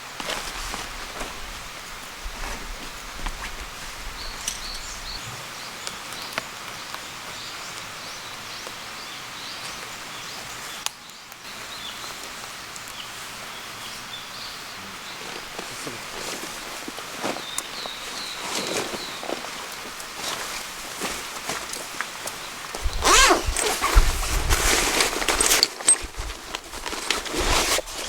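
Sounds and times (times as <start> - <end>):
steady hiss: 0.0 - 28.0
small birds chirping: 1.2 - 24.6.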